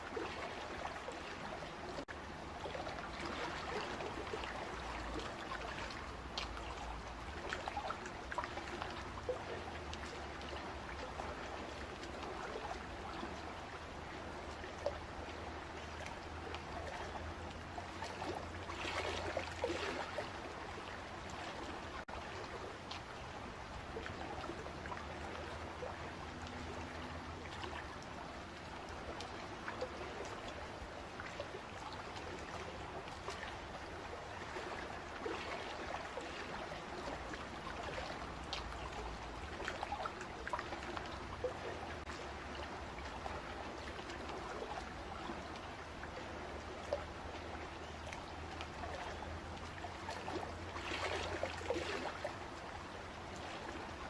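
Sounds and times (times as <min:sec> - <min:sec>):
water flowing and trickling: 0:00.0 - 0:54.0
water splashing: 0:00.0 - 0:54.0.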